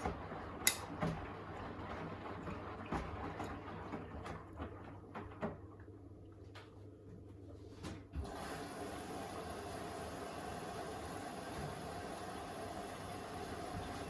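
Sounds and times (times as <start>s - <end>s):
washing machine rushing noise: 0.0s - 7.0s, 7.6s - 14.0s
washing machine humming: 0.0s - 14.0s.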